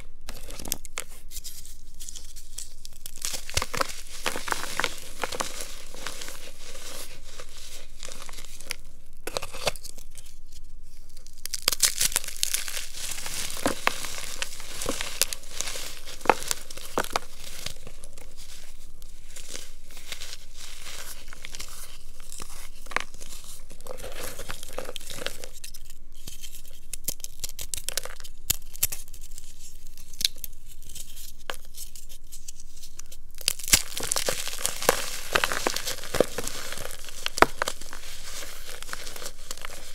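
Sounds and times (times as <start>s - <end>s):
chalk blocks crunching by hand: 0.0s - 39.9s.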